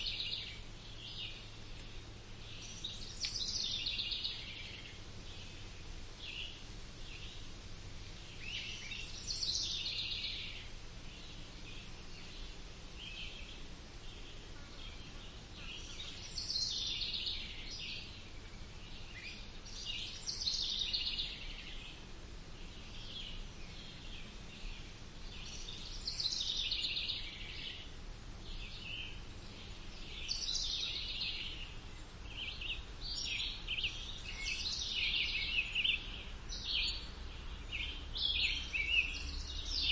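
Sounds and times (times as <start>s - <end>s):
songbirds chirping and trilling: 0.0s - 39.9s
steady low hum: 0.0s - 39.9s.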